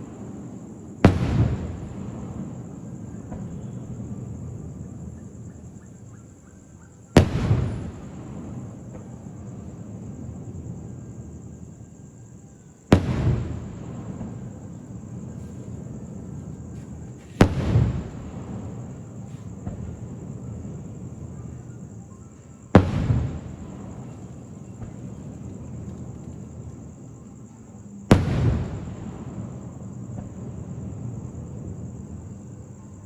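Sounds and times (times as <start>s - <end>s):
fireworks bangs: 0.0s - 6.1s, 7.1s - 11.3s, 12.9s - 21.9s, 22.7s - 26.8s, 28.1s - 32.3s.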